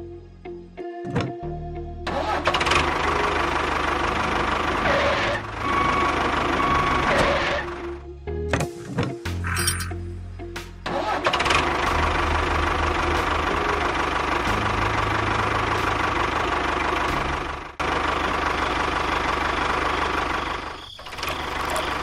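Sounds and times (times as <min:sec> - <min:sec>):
engine running with low hum: 0:02.0 - 0:10.2, 0:10.8 - 0:22.0.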